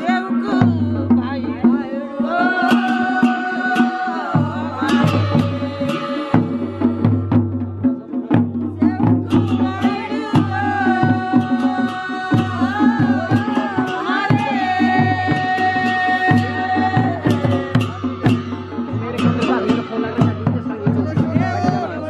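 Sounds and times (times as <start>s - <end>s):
drums beating steady rhythm: 0.0s - 22.0s.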